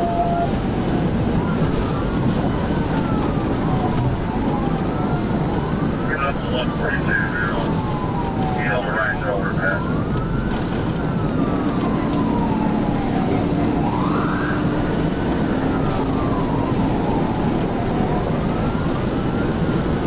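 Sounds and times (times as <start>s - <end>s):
police siren wailing: 0.0s - 20.0s
road wind and engine noise: 0.0s - 20.0s.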